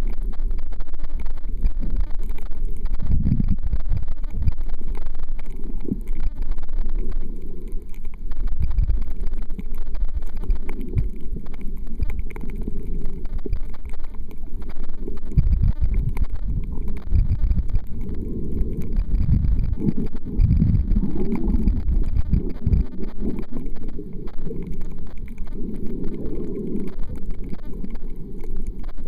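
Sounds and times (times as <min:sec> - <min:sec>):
faint crackling clicks: 0:00.0 - 0:29.0
muffled underwater rumble: 0:00.0 - 0:29.0.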